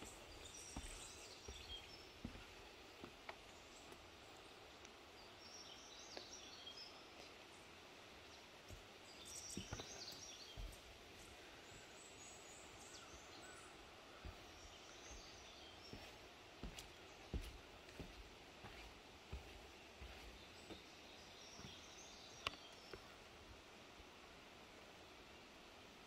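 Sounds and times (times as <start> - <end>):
distant birdsong: 0.0 - 26.0.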